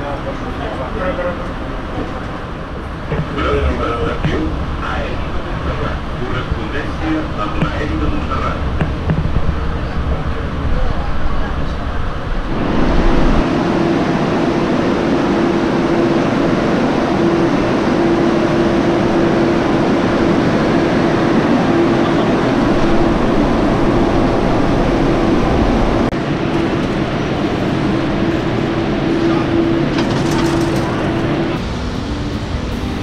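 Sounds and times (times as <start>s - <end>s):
train droning hum: 0.0s - 33.0s.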